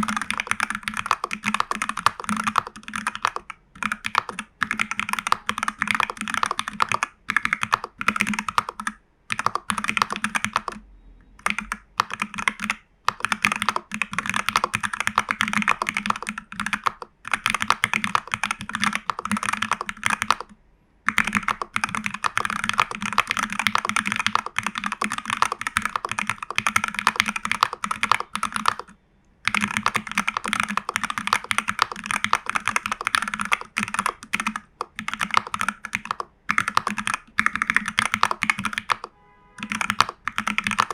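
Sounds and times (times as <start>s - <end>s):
fast typing on mechanical keyboard: 0.0s - 10.8s, 11.4s - 40.9s.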